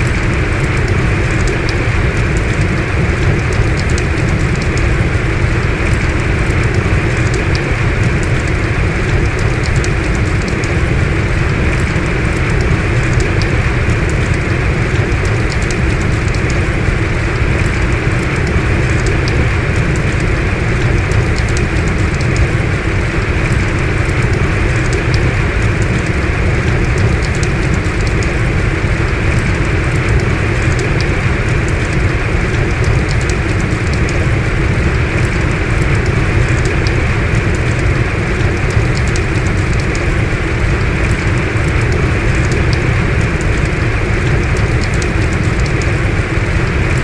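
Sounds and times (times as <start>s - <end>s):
heavy rain hiss: 0.0s - 47.0s
rain drop ticks: 0.0s - 47.0s.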